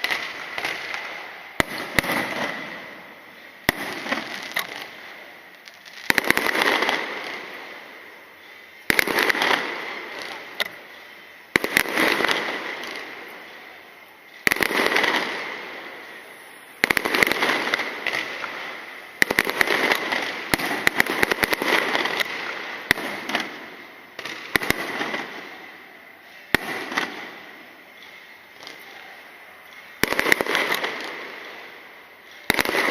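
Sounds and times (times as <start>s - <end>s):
fireworks bursting with crackle: 0.0s - 32.9s.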